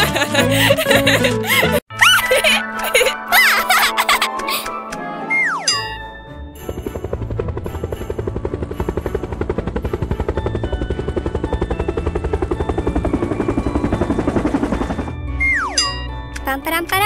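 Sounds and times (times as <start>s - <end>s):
light music: 0.0s - 17.0s.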